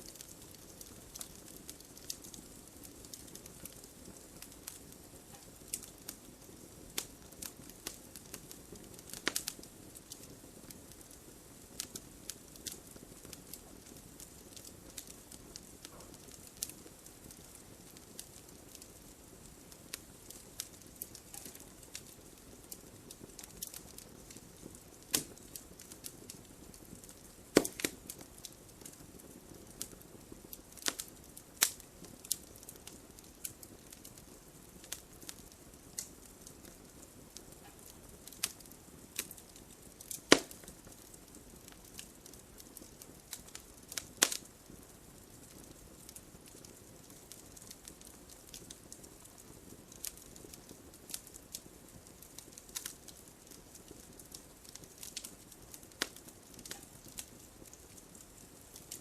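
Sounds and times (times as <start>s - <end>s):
fire crackling and popping: 0.0s - 59.0s
flame hissing: 0.0s - 59.0s.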